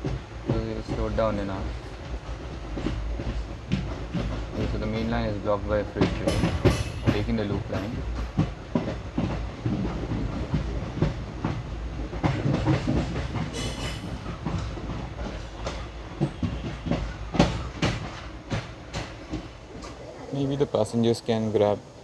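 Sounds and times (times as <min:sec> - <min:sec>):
train running rumble: 0:00.0 - 0:22.0
train wheels clattering over rails: 0:00.0 - 0:22.0.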